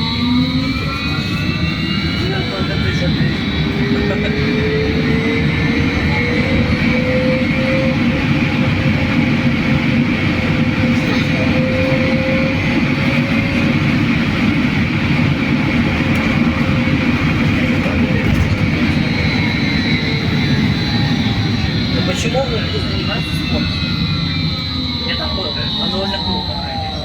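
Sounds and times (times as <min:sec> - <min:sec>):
trolleybus rumble and hum: 0:00.0 - 0:27.0.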